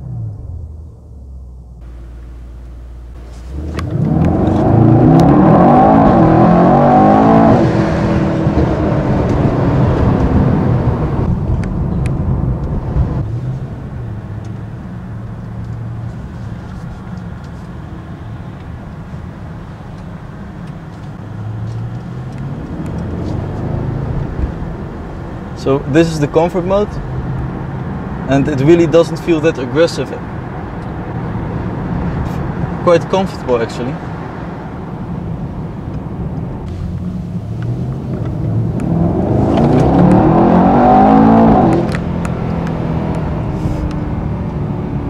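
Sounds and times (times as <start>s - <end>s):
car engine accelerating hard: 0.0s - 16.0s, 20.9s - 35.2s, 35.8s - 45.0s.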